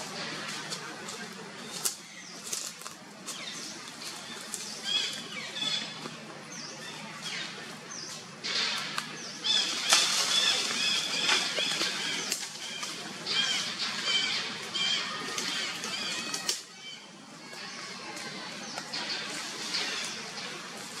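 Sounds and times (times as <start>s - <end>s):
rustling leaves and branches: 0.0s - 21.0s.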